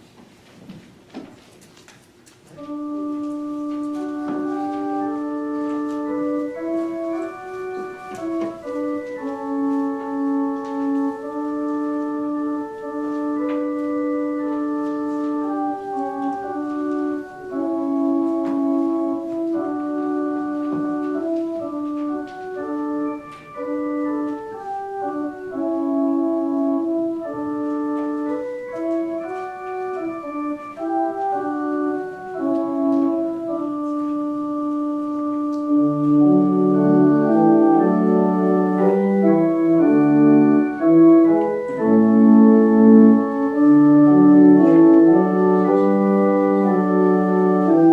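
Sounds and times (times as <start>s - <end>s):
organ playing slow chords: 2.5s - 47.9s
deep organ bass notes: 2.6s - 47.9s.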